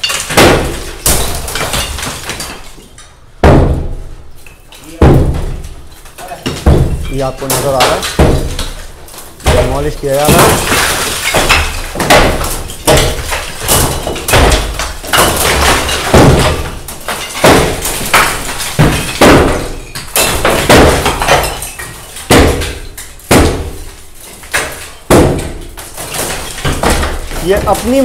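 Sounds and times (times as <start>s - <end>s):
heavy blows breaking masonry: 0.0s - 28.0s.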